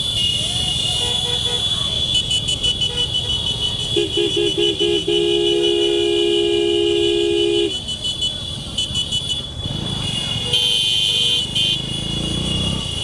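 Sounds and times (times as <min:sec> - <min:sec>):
street noise: 0:00.0 - 0:13.0
vehicle horn: 0:00.0 - 0:13.0.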